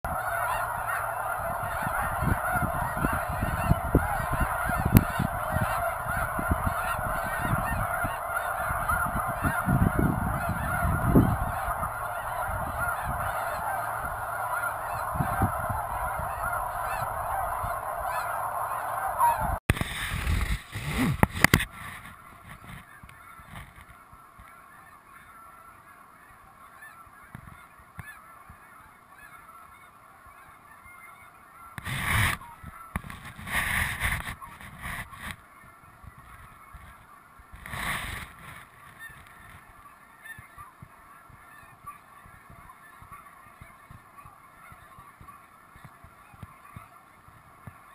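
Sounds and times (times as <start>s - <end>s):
distant geese calling: 0.0s - 19.6s, 20.8s - 47.9s
geese honking and yelping: 0.1s - 47.9s.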